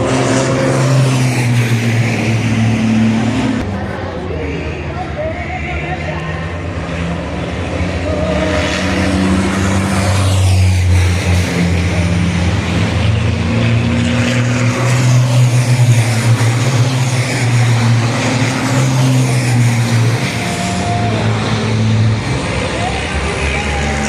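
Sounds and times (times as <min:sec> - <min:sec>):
diesel truck engines revving: 0:00.0 - 0:24.0.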